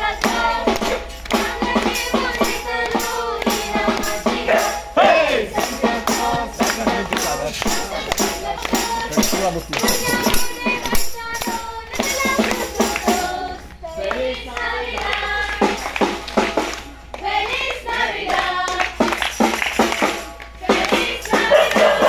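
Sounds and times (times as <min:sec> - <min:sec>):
drum and percussion: 0:00.0 - 0:22.0
group singing a carol: 0:00.0 - 0:22.0.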